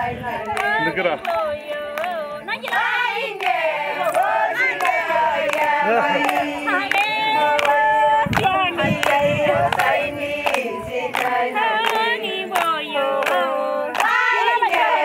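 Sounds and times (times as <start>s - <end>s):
women singing unaccompanied: 0.0s - 15.0s
handclaps: 0.2s - 15.0s.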